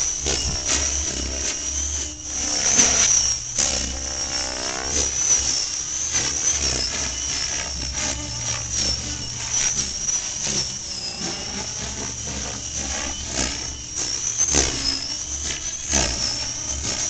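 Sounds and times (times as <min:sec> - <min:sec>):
rc helicopter motor whine: 0:00.0 - 0:17.0
rotor blades pulsing: 0:00.0 - 0:17.0.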